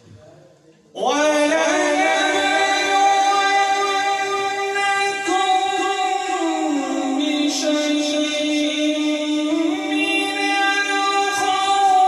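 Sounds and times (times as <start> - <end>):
man chanting melodically: 1.0 - 12.0.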